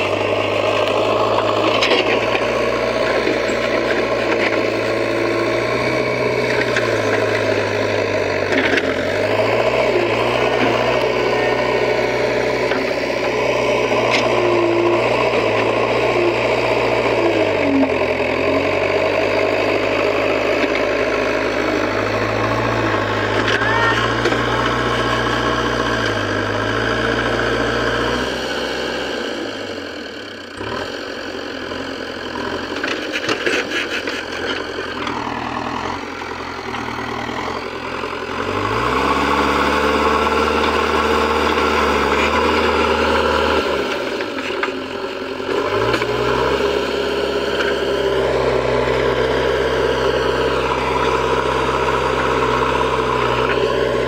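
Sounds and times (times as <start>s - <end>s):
diesel engine running: 0.0s - 54.0s
loader pushing sand: 0.0s - 54.0s.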